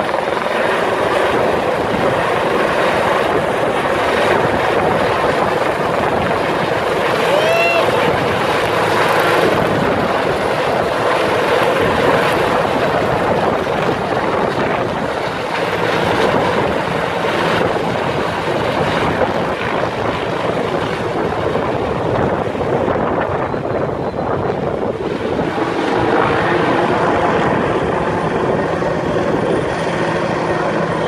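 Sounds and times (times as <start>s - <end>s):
helicopter flying overhead: 0.0s - 31.0s.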